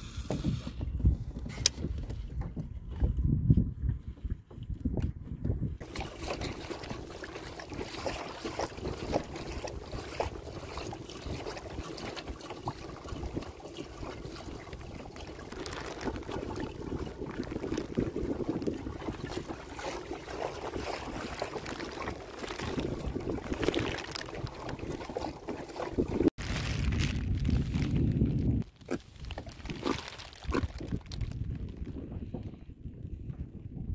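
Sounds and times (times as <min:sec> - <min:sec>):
water splashing along a hull: 0:00.0 - 0:33.8
wind buffeting microphone: 0:00.0 - 0:33.9.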